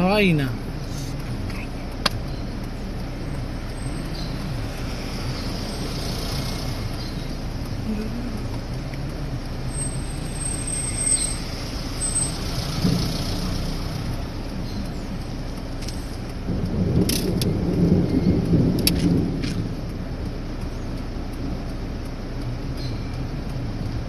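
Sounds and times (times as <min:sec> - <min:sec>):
storm wind and rain: 0:00.0 - 0:24.0.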